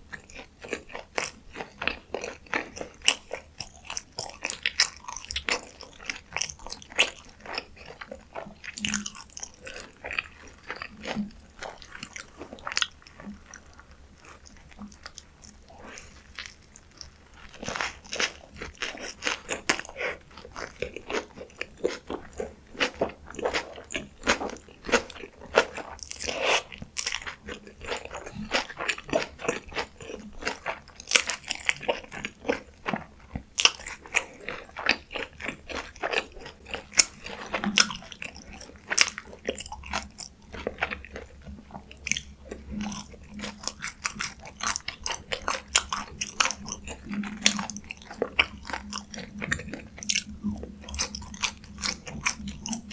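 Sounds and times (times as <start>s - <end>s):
crunchy chewing of food: 0.0s - 52.9s.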